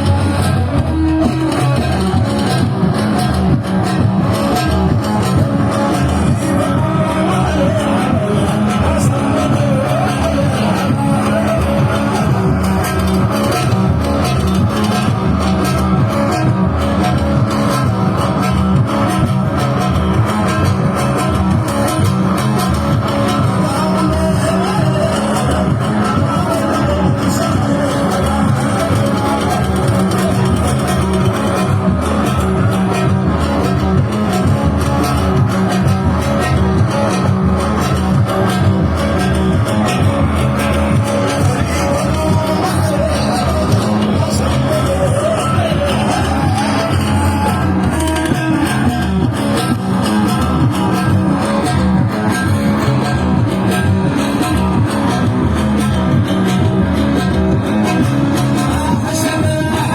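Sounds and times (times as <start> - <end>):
bass line: 0.0 - 59.9
instrumental band music: 0.0 - 59.9.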